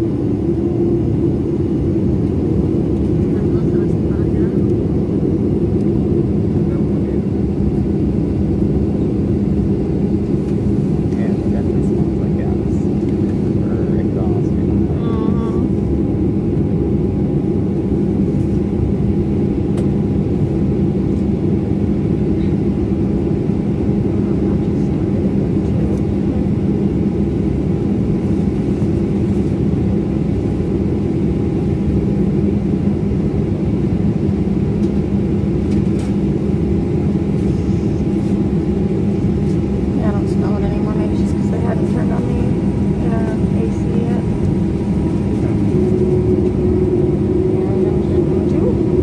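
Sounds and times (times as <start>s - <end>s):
airliner cabin hum and air rush: 0.0s - 49.0s.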